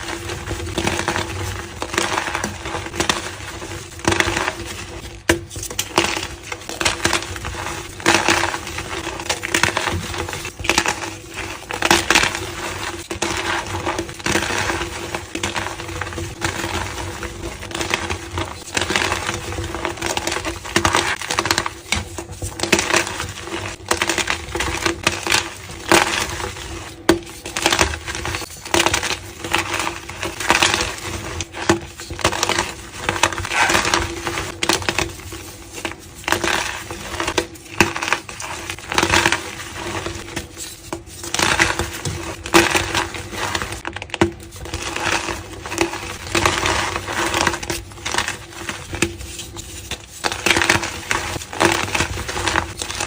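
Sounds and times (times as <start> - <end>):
chalk crumbling and crunching: 0.0 - 53.0.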